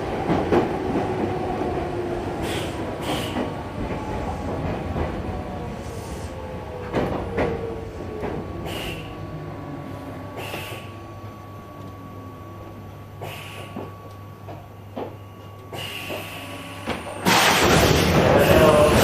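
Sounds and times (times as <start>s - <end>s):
subway train equipment hum: 0.0s - 19.0s.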